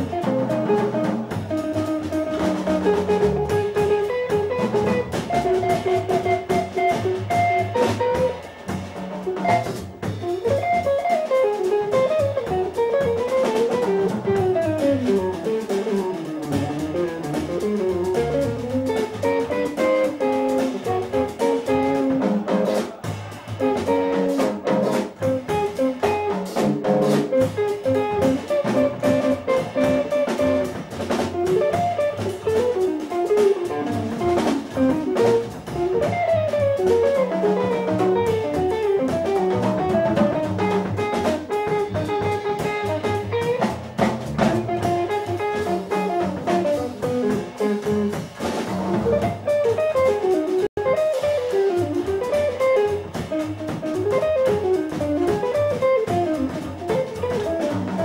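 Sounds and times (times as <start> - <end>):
drum kit with cymbals: 0.0 - 58.0
jazz guitar melody: 0.0 - 58.0
upright bass: 0.0 - 58.0.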